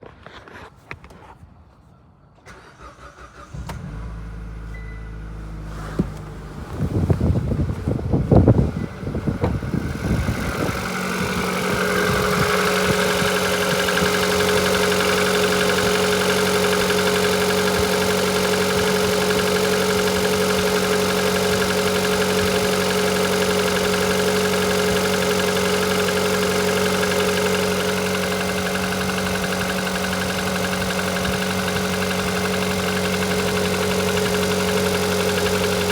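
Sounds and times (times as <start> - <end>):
car engine cranking and idling: 2.4 - 35.9.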